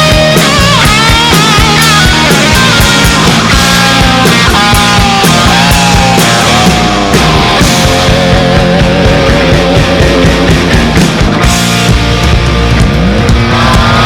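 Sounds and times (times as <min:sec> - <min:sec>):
rock music: 0:00.0 - 0:14.0
sliding guitar lines: 0:00.0 - 0:14.0.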